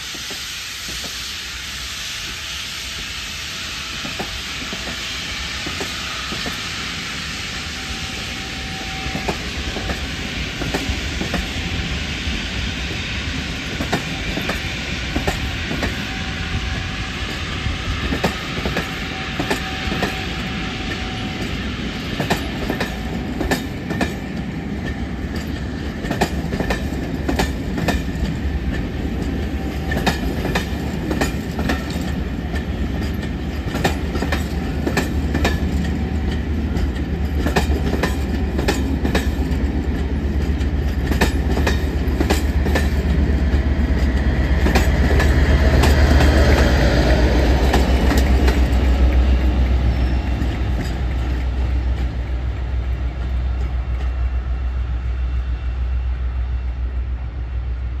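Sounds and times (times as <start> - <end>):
train wheels clicking over rail joints: 0.0 - 1.6, 2.2 - 54.8
train rumble: 0.0 - 58.0.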